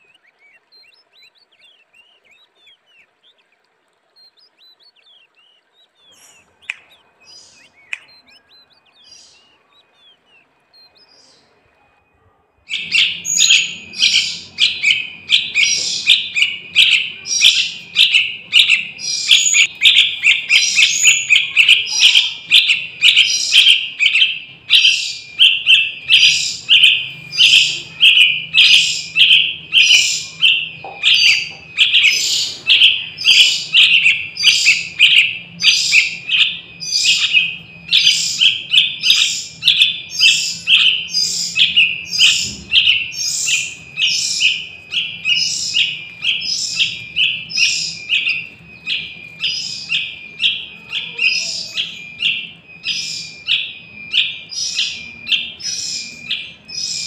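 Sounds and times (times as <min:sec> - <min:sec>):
fledgling birds chirping: 0:00.0 - 0:57.0.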